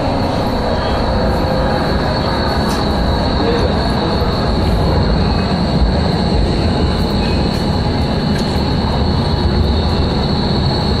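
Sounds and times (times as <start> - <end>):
train rumbling on tracks: 0.0 - 11.0.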